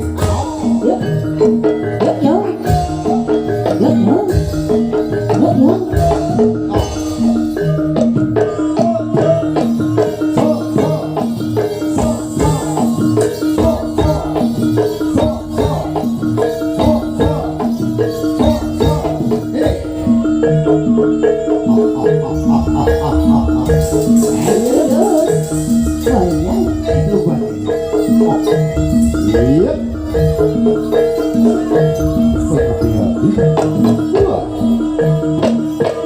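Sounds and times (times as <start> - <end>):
metallophones struck with mallets: 0.0 - 36.0
percussion rhythm: 0.0 - 36.0.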